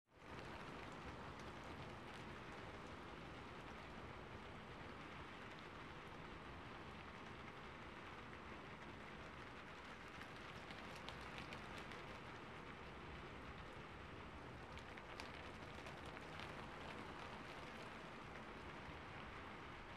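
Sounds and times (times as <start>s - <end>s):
faint rain falling: 0.1s - 19.9s.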